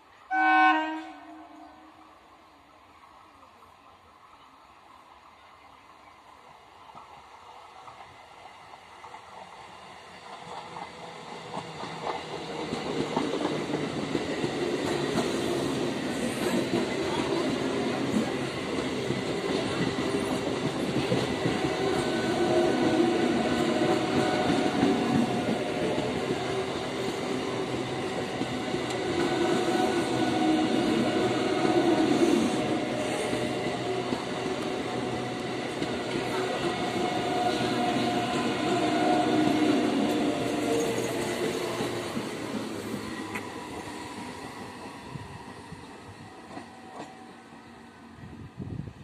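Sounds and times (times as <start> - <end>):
train wheels rumbling and clattering: 6.9 - 47.7.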